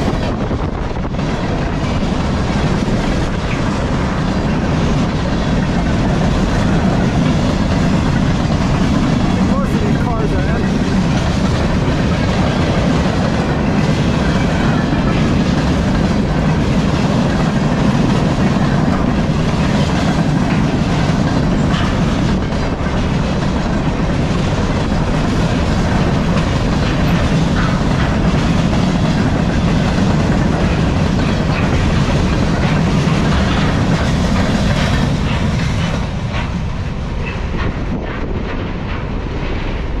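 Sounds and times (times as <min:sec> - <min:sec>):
freight train rolling past: 0:00.0 - 0:40.0
wheels clacking over rail joints: 0:00.0 - 0:40.0.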